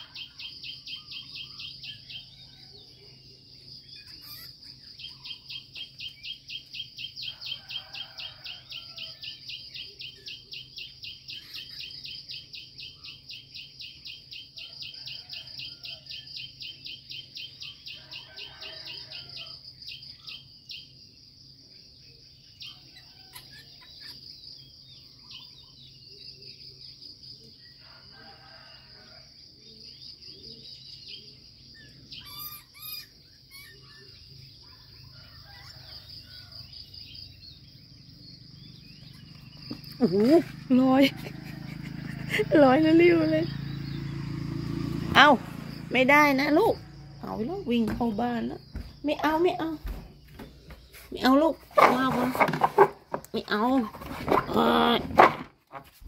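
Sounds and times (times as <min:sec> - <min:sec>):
bird calls: 0:00.0 - 0:20.9, 0:22.5 - 0:26.6, 0:29.6 - 0:56.0
pulsing insect trill: 0:00.0 - 0:50.3.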